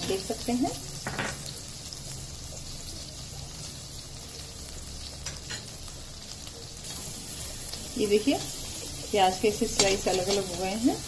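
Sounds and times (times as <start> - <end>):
onion and garlic sizzling in butter: 0.0 - 11.0.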